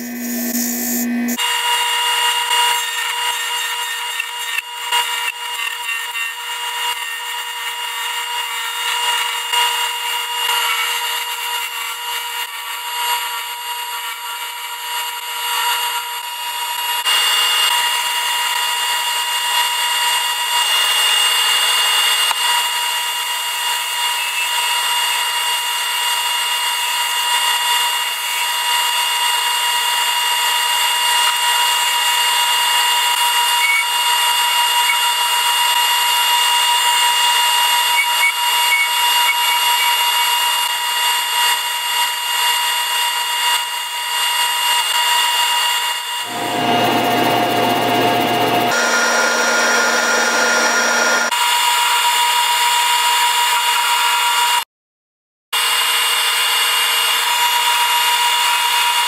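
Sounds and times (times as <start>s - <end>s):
lathe motor whine: 0.0s - 54.6s, 55.6s - 59.0s.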